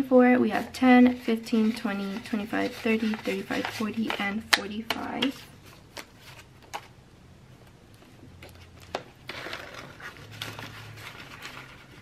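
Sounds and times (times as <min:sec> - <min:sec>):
paper and plastic rustling: 0:00.5 - 0:06.9, 0:08.4 - 0:12.0.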